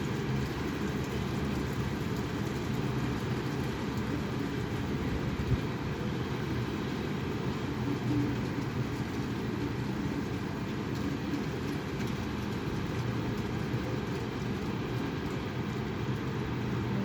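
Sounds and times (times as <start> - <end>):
wind buffeting microphone: 0.0 - 16.7.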